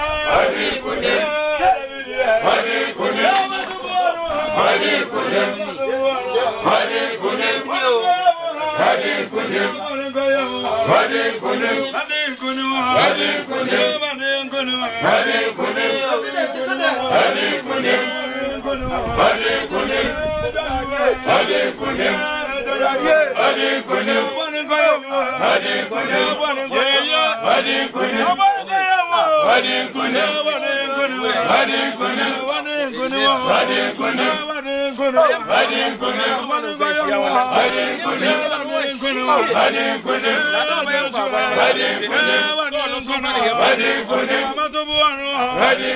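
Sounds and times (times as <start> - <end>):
voices chanting a song: 0.0 - 45.9.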